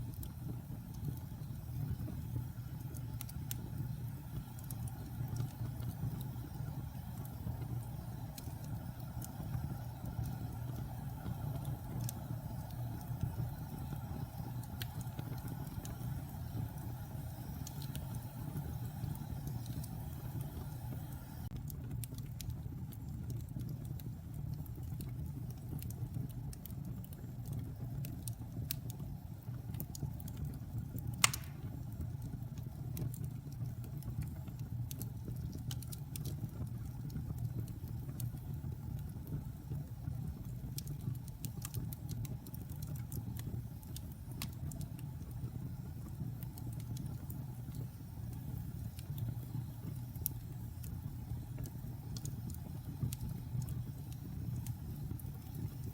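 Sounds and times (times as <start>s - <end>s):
fire popping: 0.0s - 55.9s
wood fire crackling: 0.0s - 55.9s.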